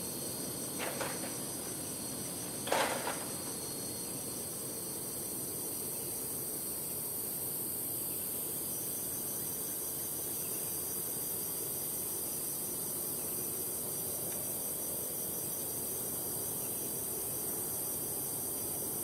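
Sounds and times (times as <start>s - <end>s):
high insect chorus: 0.0s - 19.0s.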